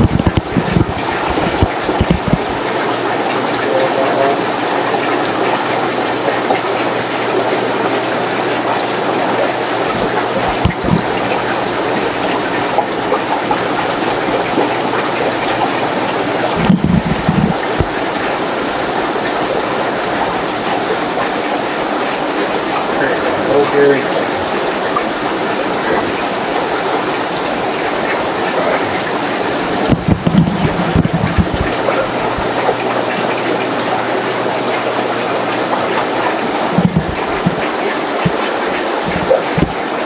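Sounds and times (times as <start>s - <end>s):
running water and bubbling air: 0.0s - 40.0s.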